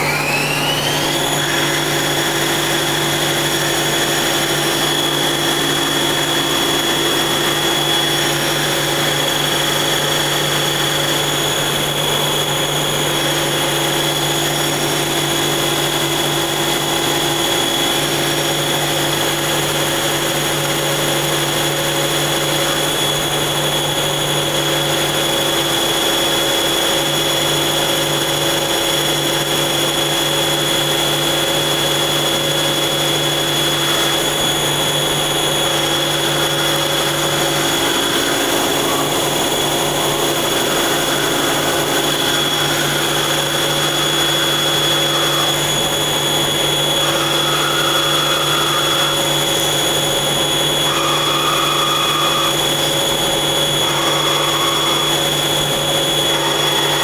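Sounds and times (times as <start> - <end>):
high steady whine: 0.0 - 57.0
lathe machine hum: 0.0 - 57.0.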